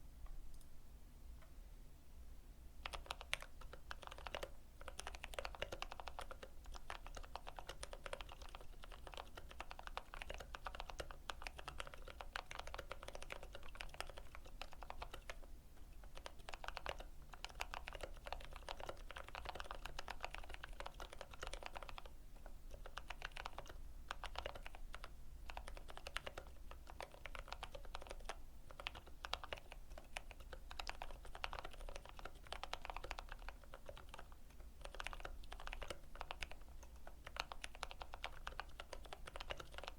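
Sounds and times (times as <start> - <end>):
faint low hum: 0.0 - 39.9
mechanical keyboard typing: 2.8 - 39.9.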